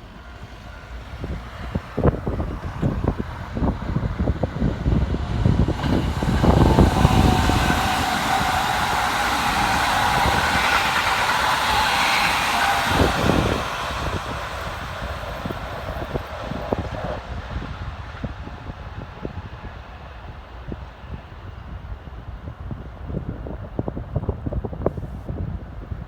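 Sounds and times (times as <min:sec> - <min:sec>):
electric train passing: 0:00.0 - 0:23.7.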